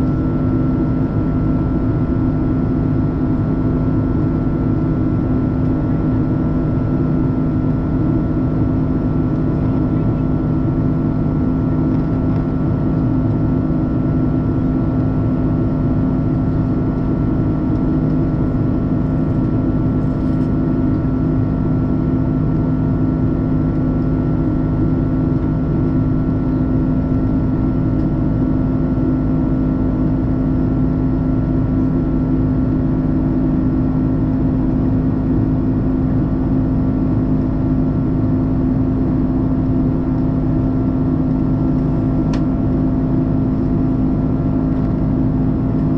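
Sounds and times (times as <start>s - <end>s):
airplane cabin drone: 0.0s - 45.9s.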